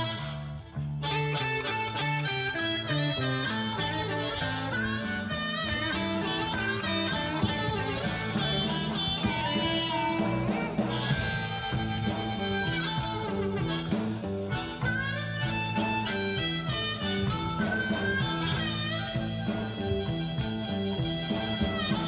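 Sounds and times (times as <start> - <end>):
jazz-blues guitar music: 0.0 - 22.0
stepping bass line: 0.0 - 22.0.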